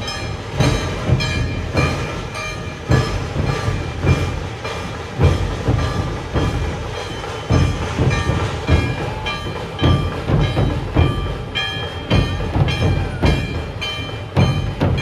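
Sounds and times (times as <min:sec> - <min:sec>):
dhol drums beating: 0:00.0 - 0:15.0.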